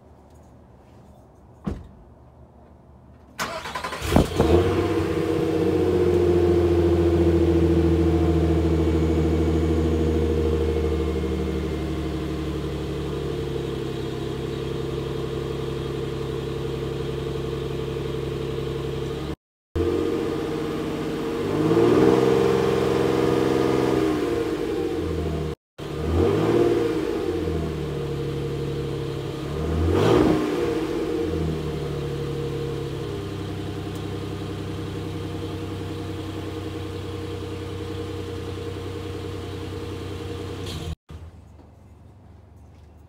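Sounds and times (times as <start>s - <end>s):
car engine revving and idling: 3.4s - 41.0s.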